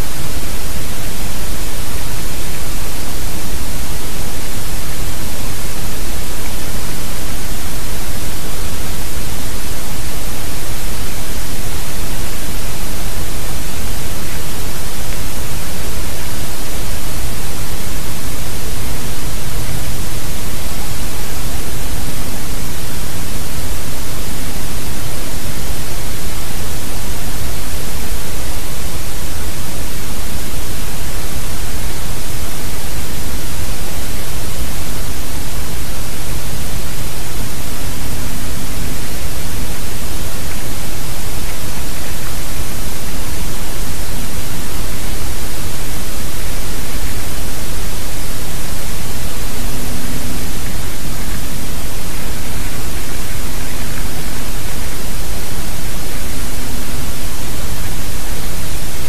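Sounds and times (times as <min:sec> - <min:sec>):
loud static hiss: 0:00.0 - 0:59.0.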